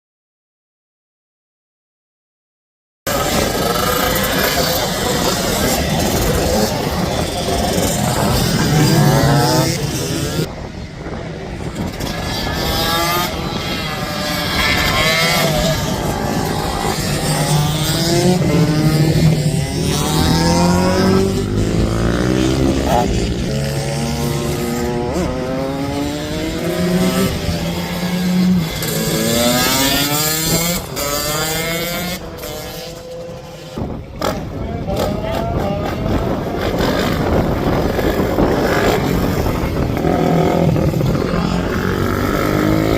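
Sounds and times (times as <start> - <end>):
minibike engines revving: 3.1 - 42.9.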